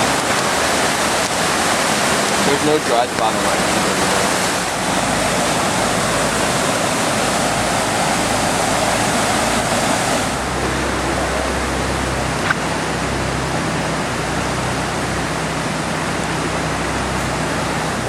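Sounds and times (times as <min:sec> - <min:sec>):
floodwater rushing: 0:00.0 - 0:18.0
low steady hum: 0:00.0 - 0:18.0.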